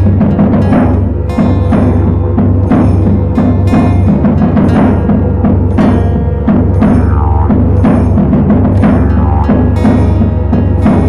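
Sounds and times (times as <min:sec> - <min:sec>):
didgeridoo drone: 0:00.0 - 0:11.0
drums: 0:00.0 - 0:11.0.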